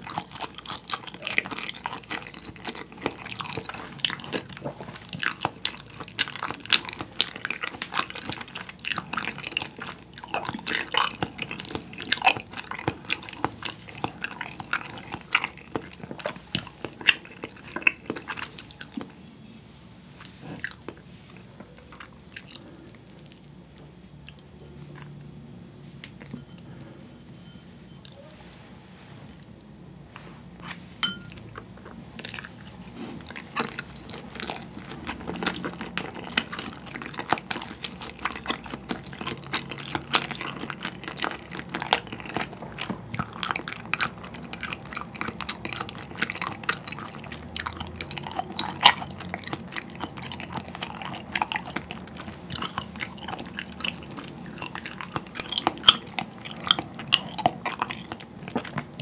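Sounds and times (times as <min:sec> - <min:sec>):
wet sticky chewing: 0:00.0 - 0:19.2, 0:20.1 - 0:25.4, 0:30.6 - 0:59.0.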